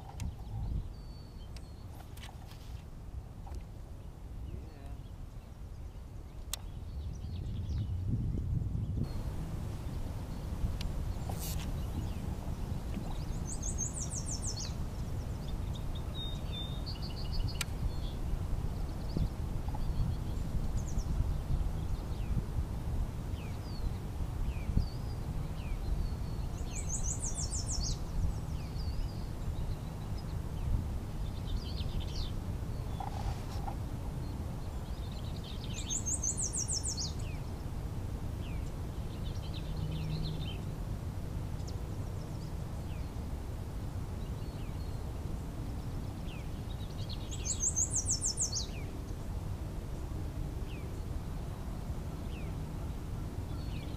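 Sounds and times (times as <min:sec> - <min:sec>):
songbirds chirping: 0:00.0 - 0:53.9
low steady rumble: 0:02.8 - 0:53.9.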